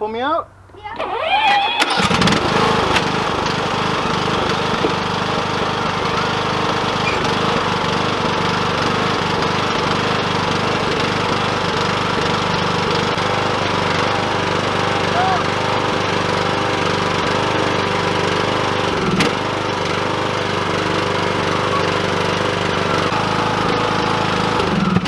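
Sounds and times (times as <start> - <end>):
lawn mower engine running: 0.5 - 25.0.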